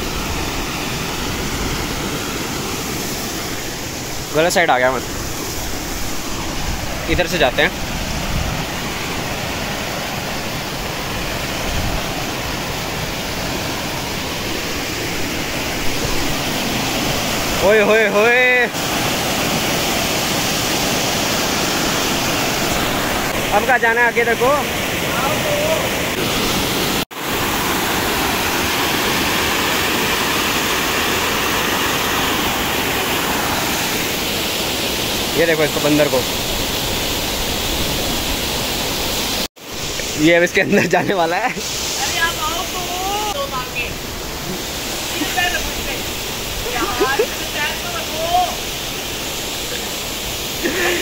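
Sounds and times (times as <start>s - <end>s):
small waterfall rushing: 0.0s - 51.0s.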